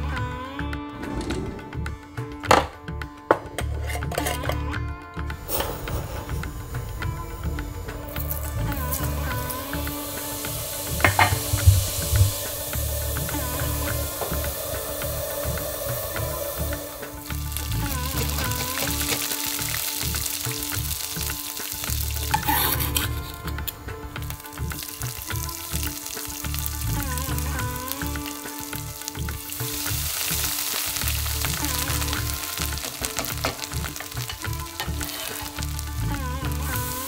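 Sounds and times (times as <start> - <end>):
soft background music: 0.0 - 37.0
food sizzling in hot oil: 5.5 - 37.0.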